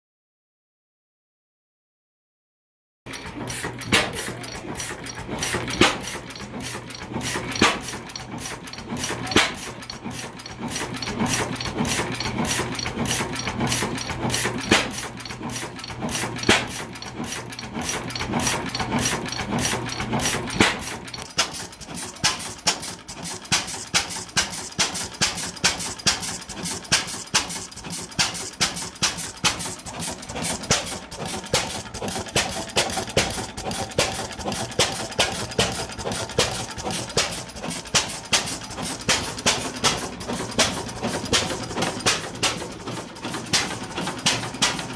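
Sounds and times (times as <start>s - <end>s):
hit-and-miss engine firing: 3.1s - 15.3s, 16.1s - 17.4s, 18.4s - 44.9s.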